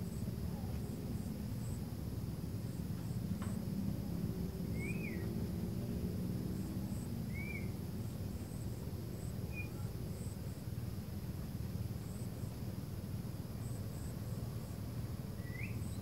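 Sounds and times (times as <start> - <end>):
insect chirps: 0.0 - 16.0
low background hum: 0.0 - 16.0.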